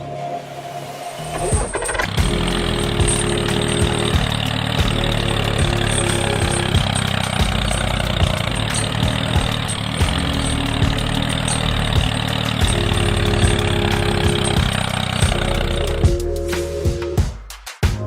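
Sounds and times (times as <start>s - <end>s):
engine idling: 1.3s - 16.3s
regular engine knock: 1.5s - 16.2s.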